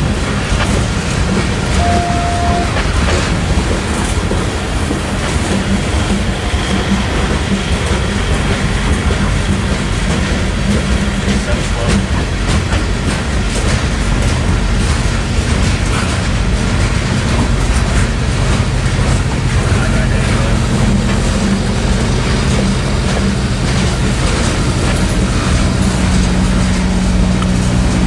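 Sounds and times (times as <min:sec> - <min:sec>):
freight train rumbling past: 0:00.0 - 0:28.0
steel wheels clattering over rails: 0:00.0 - 0:28.0.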